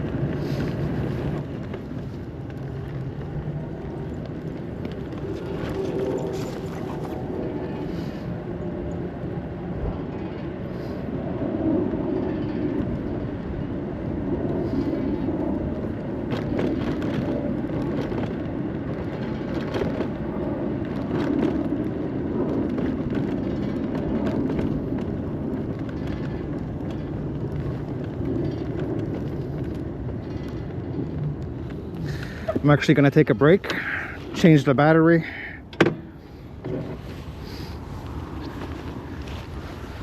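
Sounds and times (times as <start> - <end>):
road and wind rumble: 0.0 - 40.0.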